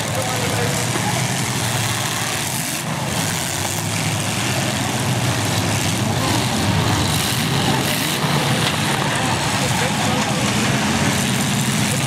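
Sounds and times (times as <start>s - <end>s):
car engines running loudly: 0.0s - 12.0s.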